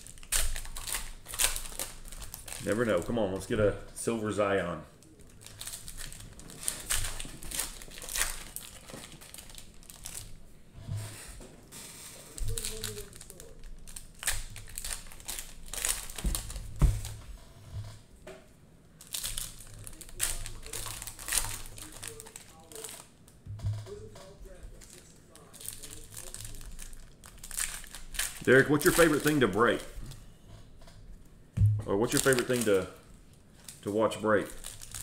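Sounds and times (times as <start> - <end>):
plastic wrapper crinkling and tearing: 0.0 - 4.2, 5.0 - 10.4, 12.2 - 17.2, 19.0 - 30.4, 32.0 - 35.0.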